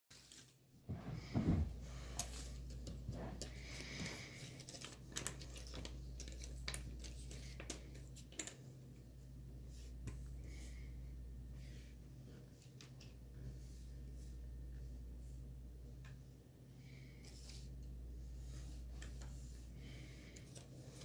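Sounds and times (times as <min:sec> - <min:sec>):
steady low hum: 0:00.8 - 0:21.0.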